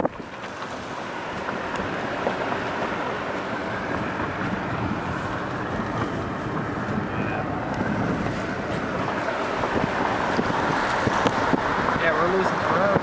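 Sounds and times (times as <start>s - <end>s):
road and engine noise in car: 0.0s - 13.0s
wind on microphone: 0.0s - 13.0s.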